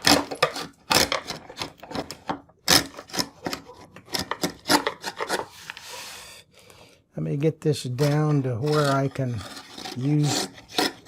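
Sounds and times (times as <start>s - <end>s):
chisel scraping wood: 0.0s - 5.8s, 7.9s - 11.0s.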